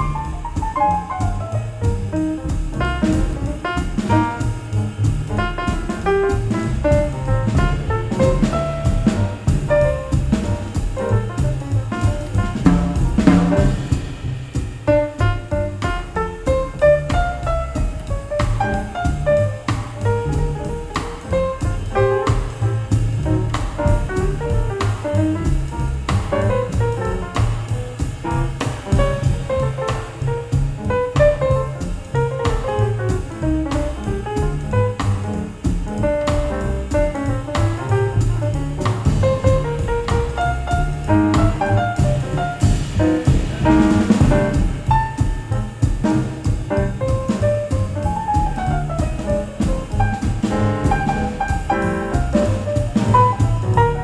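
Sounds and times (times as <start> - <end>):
double bass: 0.0 - 54.0
drum kit: 0.0 - 54.0
jazz piano runs: 0.0 - 54.0.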